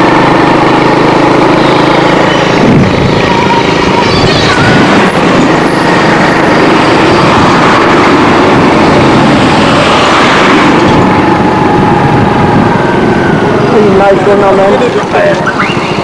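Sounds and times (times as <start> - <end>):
road noise: 0.0 - 16.0
vehicle engine: 0.0 - 16.0.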